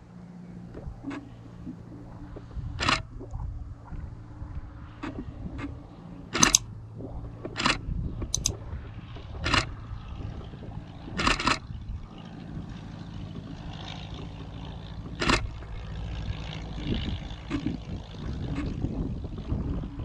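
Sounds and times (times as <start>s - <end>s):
light aircraft engine drone: 0.0s - 20.0s.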